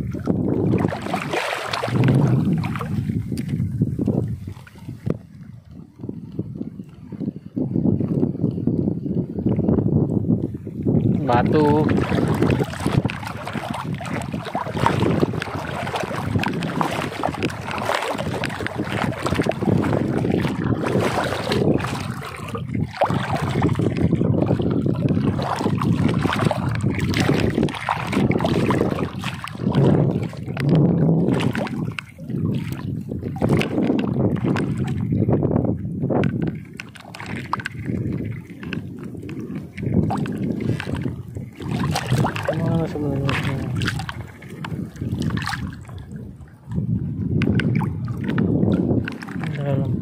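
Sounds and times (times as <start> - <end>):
water sloshing and splashing: 0.0 - 50.0
wind buffeting microphone: 0.0 - 50.0.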